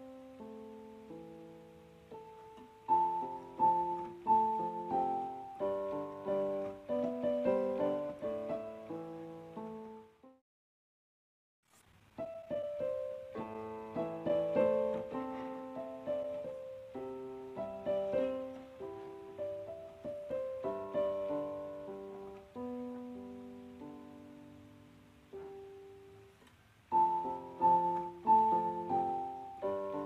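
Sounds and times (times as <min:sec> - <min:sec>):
slow piano piece: 0:00.0 - 0:10.4, 0:12.1 - 0:30.0.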